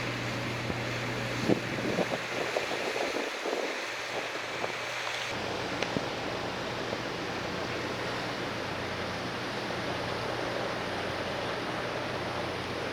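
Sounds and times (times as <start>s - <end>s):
low steady hum: 0.0s - 12.9s
sea noise: 0.0s - 12.9s
wind: 0.0s - 12.9s.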